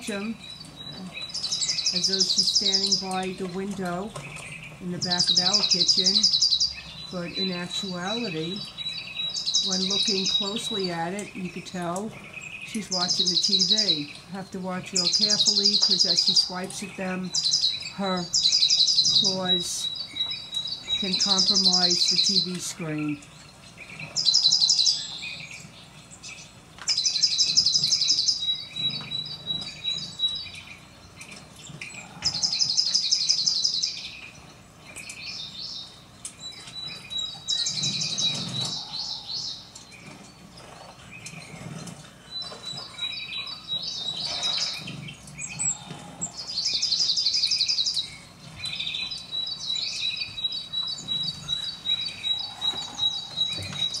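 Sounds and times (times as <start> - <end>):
songbirds trilling through speaker: 0.0 - 54.0.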